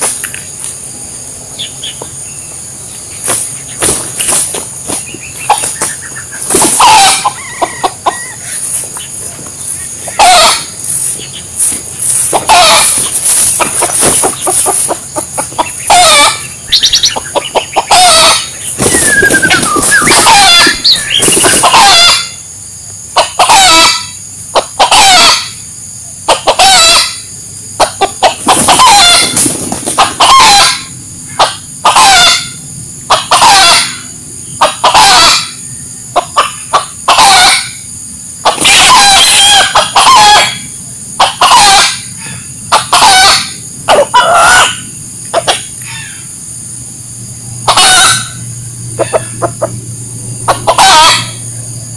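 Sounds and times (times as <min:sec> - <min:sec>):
rooster crowing and clucking: 0:03.2 - 0:51.9.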